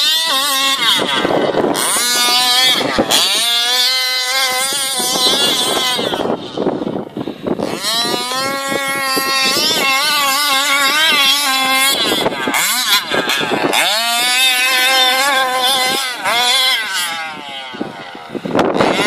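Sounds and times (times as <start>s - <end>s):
small two-stroke engine revving: 0.0s - 19.0s.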